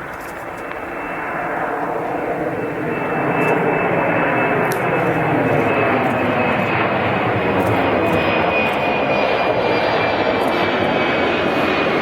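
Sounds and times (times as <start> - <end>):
airplane engines running: 0.0 - 12.0.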